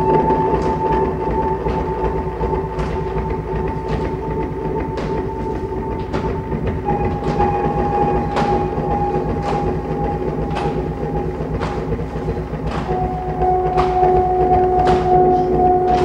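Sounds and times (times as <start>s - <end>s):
held droning tones: 0.0s - 16.0s
low mechanical rumble: 0.0s - 16.0s
sharp percussive hits: 0.0s - 16.0s.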